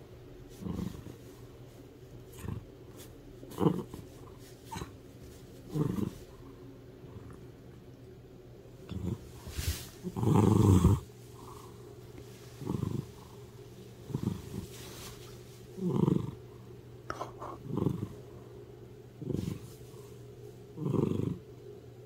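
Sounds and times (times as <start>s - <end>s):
cat purring: 0.5s - 7.8s, 8.8s - 21.6s.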